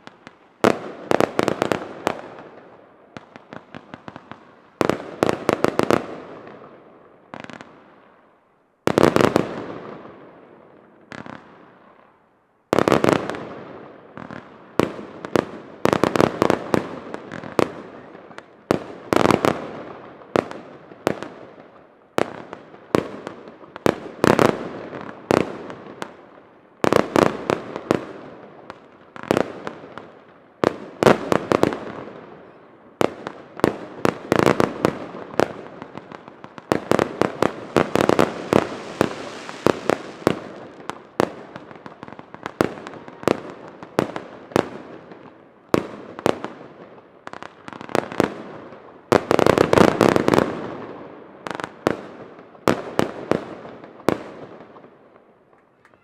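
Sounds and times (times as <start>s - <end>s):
fireworks bursts and bangs: 0.0s - 7.9s, 8.9s - 10.3s, 11.0s - 56.0s.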